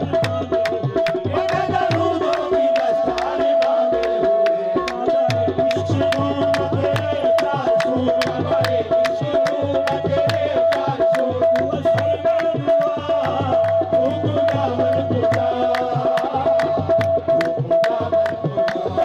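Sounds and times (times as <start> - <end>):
sharp claps or drum strikes: 0.0 - 19.0
voices singing: 0.0 - 19.0.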